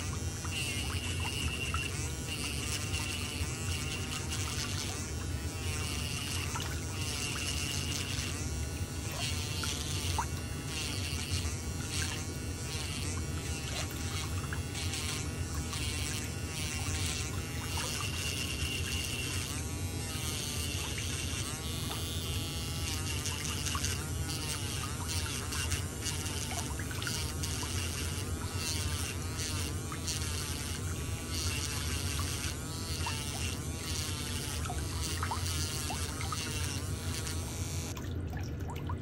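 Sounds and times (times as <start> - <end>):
electric nail drill whirring: 0.0 - 38.0.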